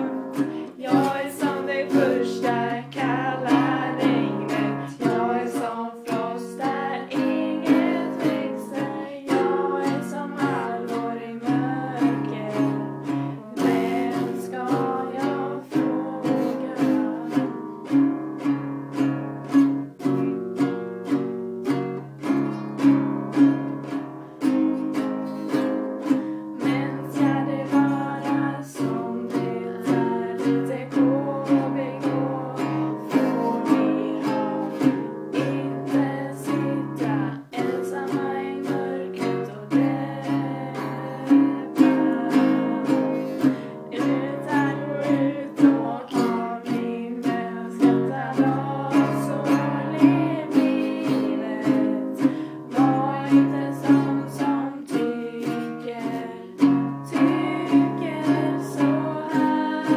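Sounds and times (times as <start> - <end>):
classical guitar strummed: 0.0 - 59.9
woman singing: 0.0 - 59.9.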